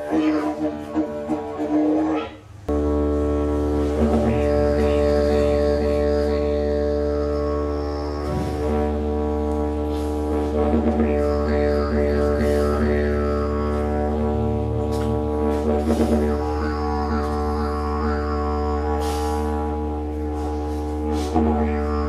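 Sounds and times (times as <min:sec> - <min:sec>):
didgeridoo drone: 0:00.0 - 0:22.0.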